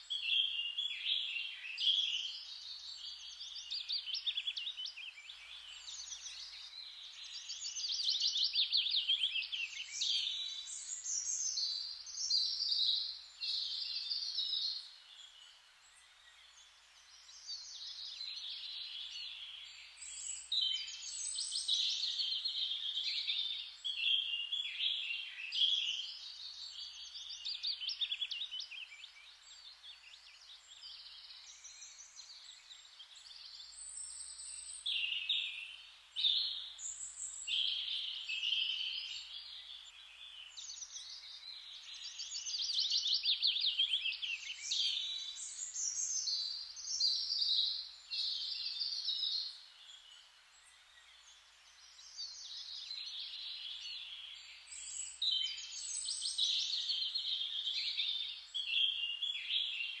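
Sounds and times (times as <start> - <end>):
faint background hiss: 0.0 - 60.0
songbirds chirping and trilling: 0.0 - 60.0.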